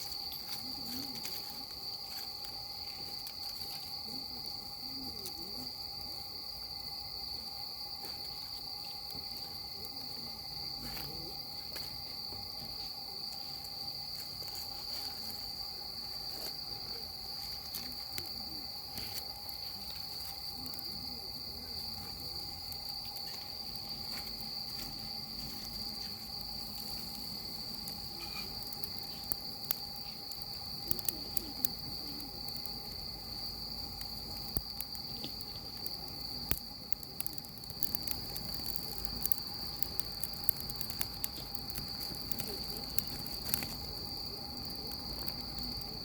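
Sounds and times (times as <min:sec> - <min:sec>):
insect trill: 0:00.0 - 0:46.0
wood fire crackling and popping: 0:00.0 - 0:46.0.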